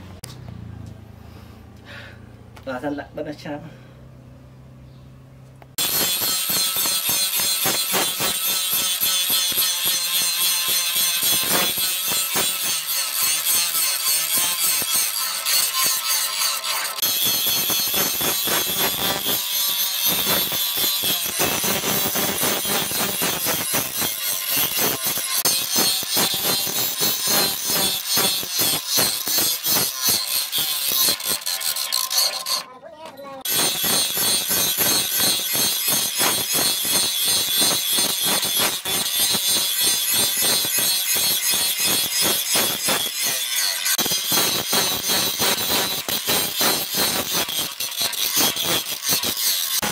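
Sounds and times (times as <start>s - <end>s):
angle grinder grinding metal: 5.8s - 49.9s.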